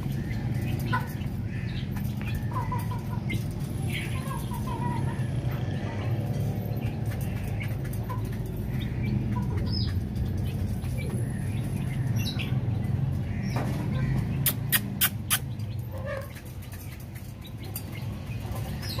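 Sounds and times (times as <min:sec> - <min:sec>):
chicks cheeping: 0:00.0 - 0:19.0.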